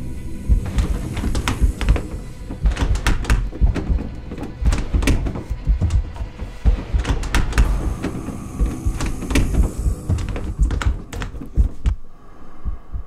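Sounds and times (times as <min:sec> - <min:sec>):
sharp knocks with low thumps: 0:00.5 - 0:12.0.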